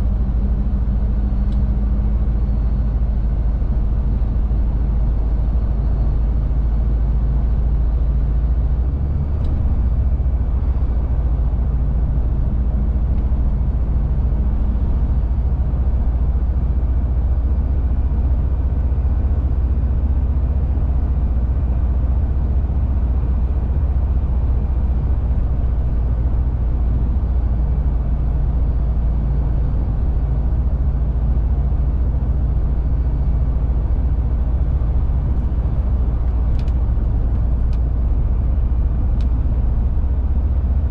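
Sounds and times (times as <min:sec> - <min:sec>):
road rumble: 0:00.0 - 0:40.9
truck engine drone: 0:00.0 - 0:40.9.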